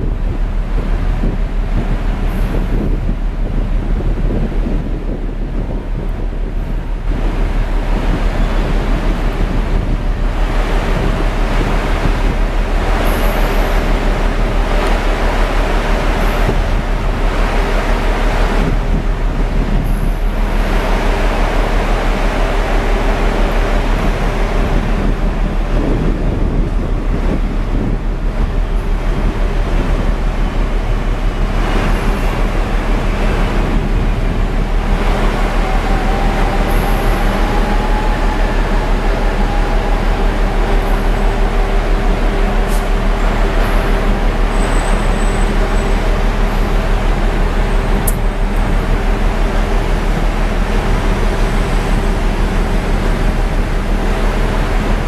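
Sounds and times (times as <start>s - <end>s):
machinery drone: 0.0s - 55.0s.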